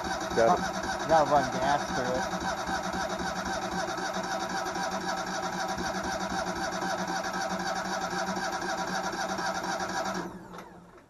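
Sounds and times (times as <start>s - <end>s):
generator engine running steadily: 0.0s - 10.9s.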